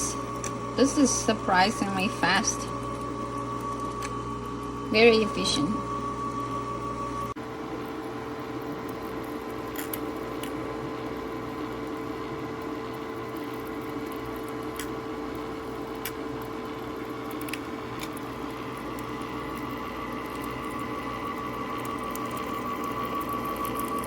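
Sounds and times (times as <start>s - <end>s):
ice maker humming: 0.0s - 24.0s.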